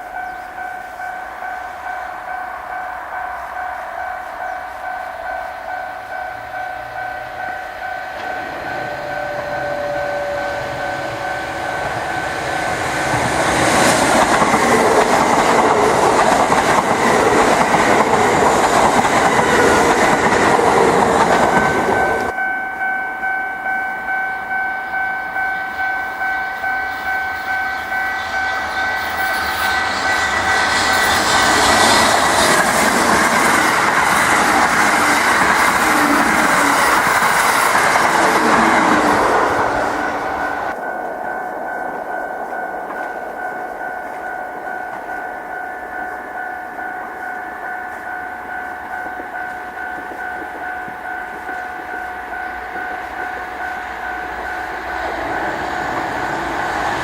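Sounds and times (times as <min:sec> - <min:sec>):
level crossing alarm bell: 0:00.0 - 0:57.0
train rumble and wheel noise: 0:00.0 - 0:57.0.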